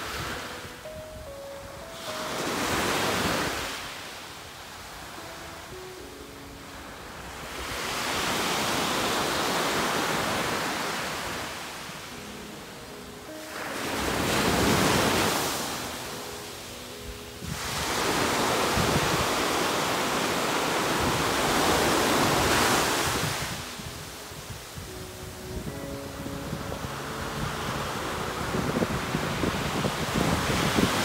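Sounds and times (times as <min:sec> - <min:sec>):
small waves breaking on beach: 0:01.9 - 0:31.0.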